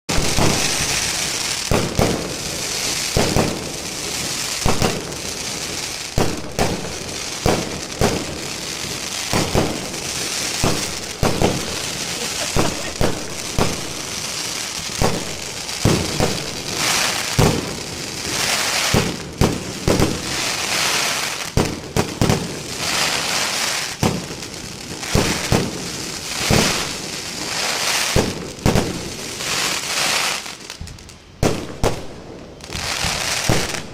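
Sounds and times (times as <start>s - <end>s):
fireworks bangs: 0.1s - 33.9s
fireworks crackling and hissing: 0.1s - 33.9s.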